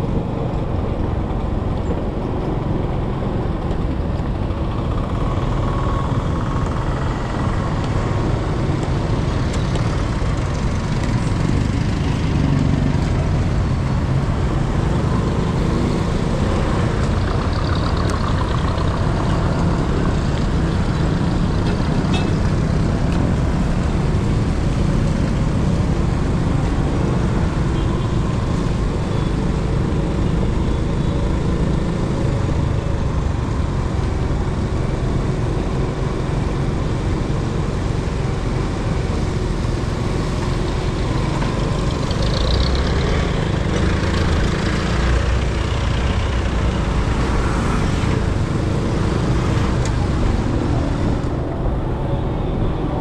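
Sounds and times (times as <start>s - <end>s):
motor vehicle engine running: 0.0s - 53.0s.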